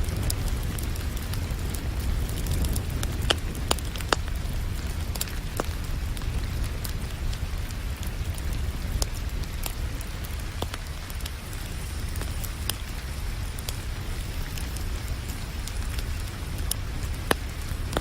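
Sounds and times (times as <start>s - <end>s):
constant low rumble: 0.0s - 18.0s
steady rain: 0.0s - 18.0s
wood fire crackling: 0.0s - 18.0s.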